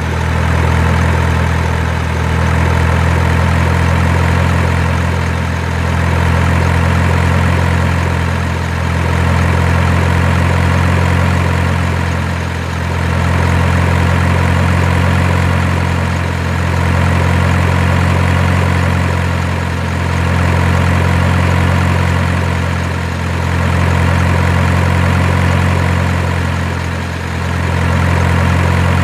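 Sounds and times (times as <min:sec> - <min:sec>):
heavy truck engine idling: 0:00.0 - 0:29.0.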